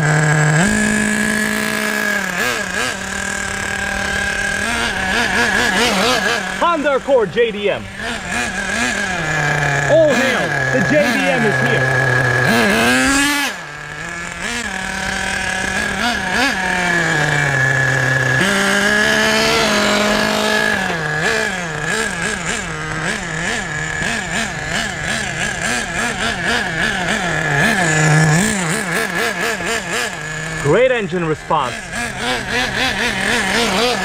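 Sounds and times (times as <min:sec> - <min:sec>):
small nitro engine revving: 0:00.0 - 0:34.0.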